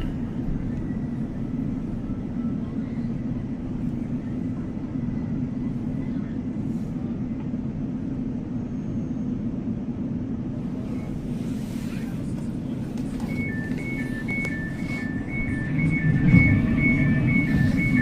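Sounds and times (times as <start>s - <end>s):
train rumbling from inside carriage: 0.0s - 18.0s.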